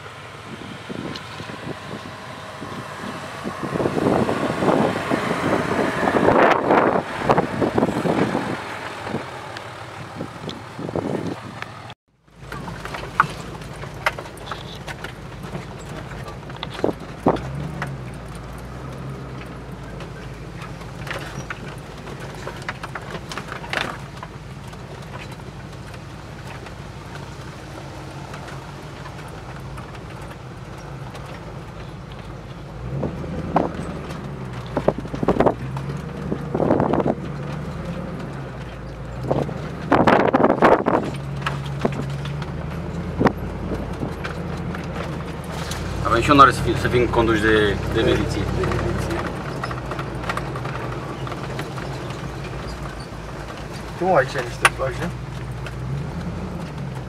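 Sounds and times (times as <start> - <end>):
car engine and tyres climbing: 0.0 - 57.0
low drone of car driving: 0.0 - 57.0
knocks and rattles: 1.1 - 57.0.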